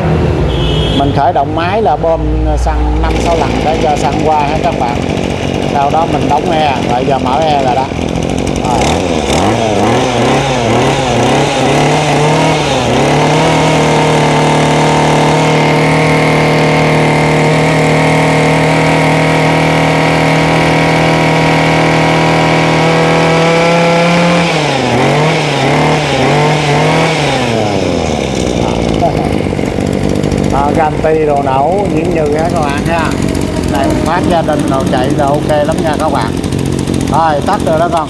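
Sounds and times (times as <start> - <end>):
brush cutter engine revving: 0.0 - 38.0.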